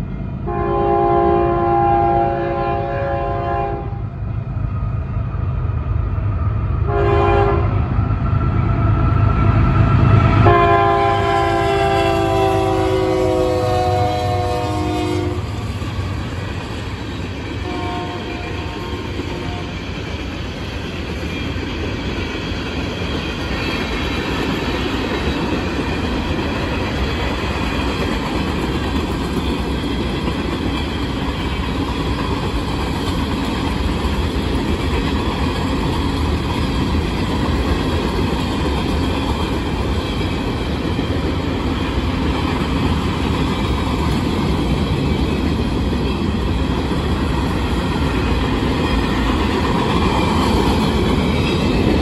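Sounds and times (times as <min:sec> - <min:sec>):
freight train wheels on rails: 0:00.0 - 0:52.0.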